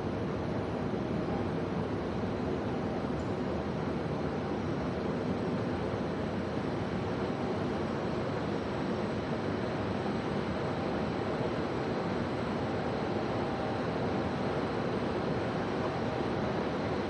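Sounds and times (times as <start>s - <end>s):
railway station background noise: 0.0s - 17.0s.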